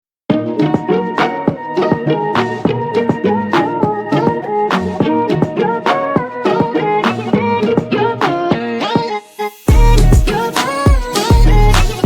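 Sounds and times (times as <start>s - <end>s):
folk melody over a steady beat: 0.3s - 8.7s, 9.7s - 12.0s.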